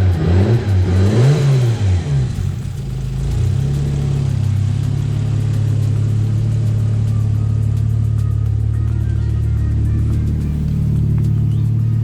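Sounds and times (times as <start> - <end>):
car engine revving: 0.0 - 12.0
car engine idling: 0.3 - 12.0.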